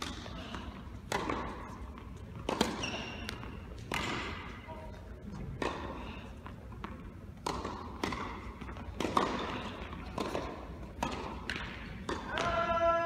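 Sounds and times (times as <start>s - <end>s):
tennis ball bouncing on hard court: 0.0s - 4.6s, 5.4s - 6.0s, 6.7s - 12.7s.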